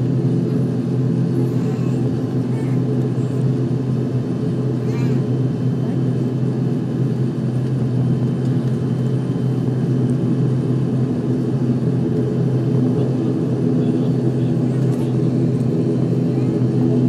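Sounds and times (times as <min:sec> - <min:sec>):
turboprop cabin drone: 0:00.0 - 0:17.0.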